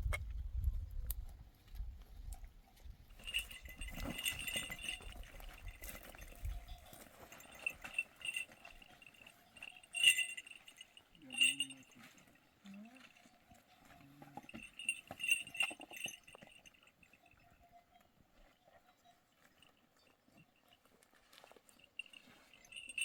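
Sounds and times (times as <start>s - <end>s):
sheep bells clinking: 3.1s - 23.0s.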